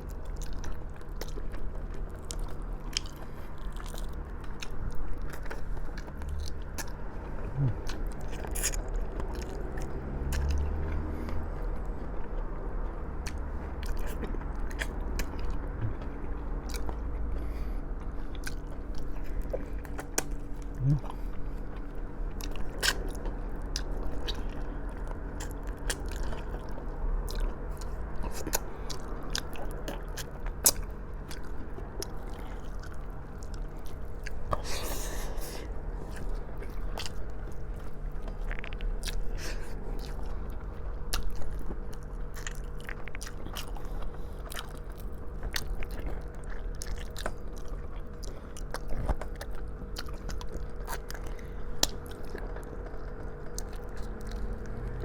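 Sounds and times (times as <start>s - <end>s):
chewing and lip smacking: 0.0s - 55.0s
faint steady hum: 0.0s - 55.0s.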